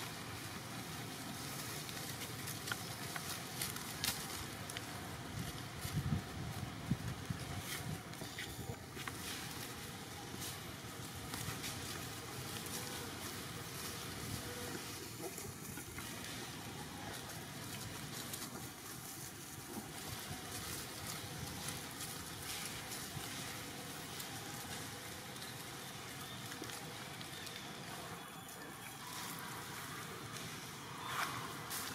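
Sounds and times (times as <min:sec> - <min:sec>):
faint rustles and clicks: 0:00.0 - 0:31.9
outdoor background noise: 0:00.0 - 0:31.9.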